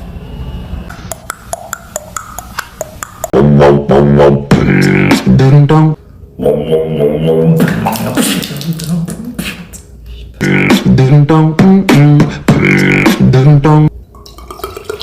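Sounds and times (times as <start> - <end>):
beatboxing vocal hum and hiss: 0.9 - 13.9
rhythmic sung vocal notes: 0.9 - 13.9.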